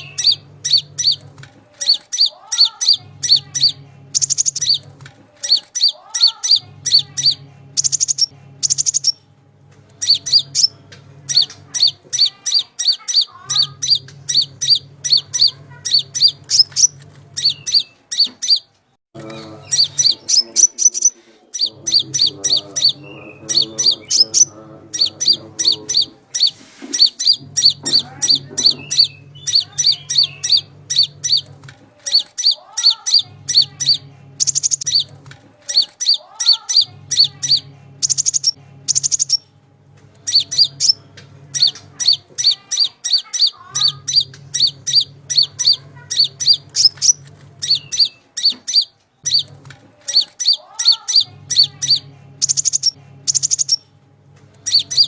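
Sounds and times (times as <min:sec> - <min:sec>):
bird chirping: 0:00.0 - 0:09.3, 0:09.9 - 0:39.5, 0:40.2 - 0:54.0, 0:54.6 - 0:55.0.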